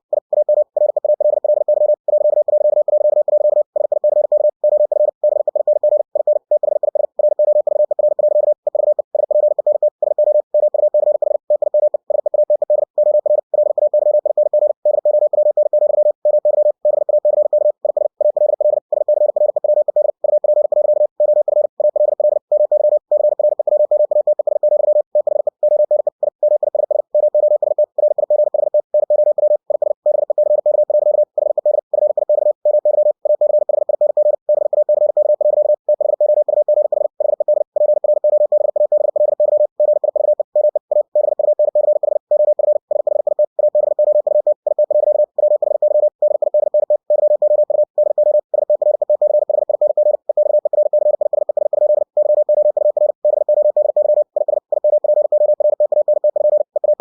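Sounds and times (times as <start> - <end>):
morse code beeps: 0.0 - 57.0.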